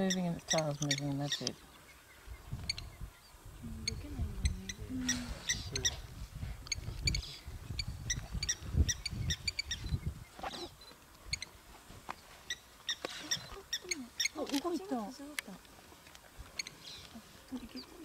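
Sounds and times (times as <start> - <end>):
birds pipping: 0.0 - 18.0.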